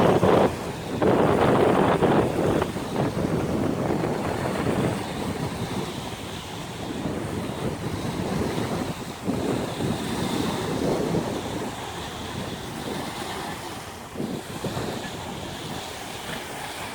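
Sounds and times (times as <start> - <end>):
small waves washing on shore: 0.0 - 16.9
wind buffeting microphone: 0.0 - 16.9.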